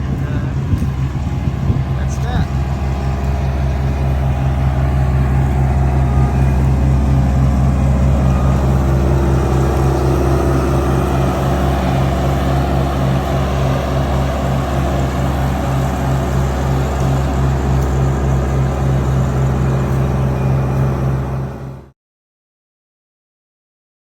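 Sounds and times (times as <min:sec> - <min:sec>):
large engine running steadily: 0:00.0 - 0:22.0.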